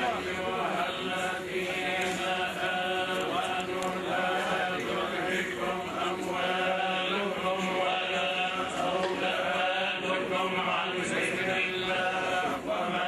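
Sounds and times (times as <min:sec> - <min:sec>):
men chanting a prayer: 0:00.0 - 0:13.0.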